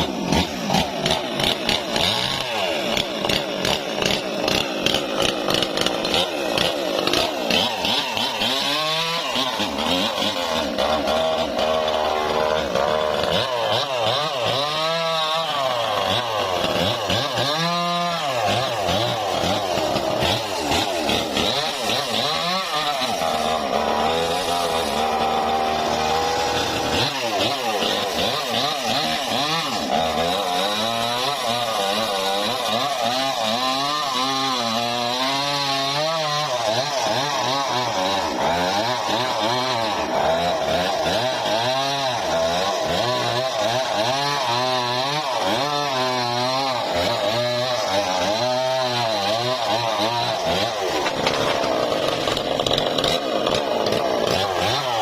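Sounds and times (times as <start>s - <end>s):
engine-driven saw cutting wood: 0.0s - 55.0s.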